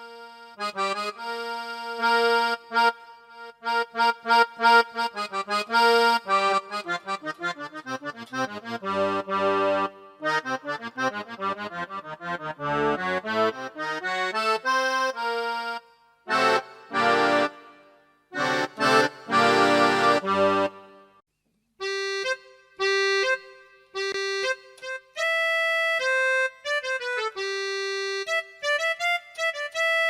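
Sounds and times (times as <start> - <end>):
keyboard accordion tone: 0.0 - 21.2, 21.8 - 30.0.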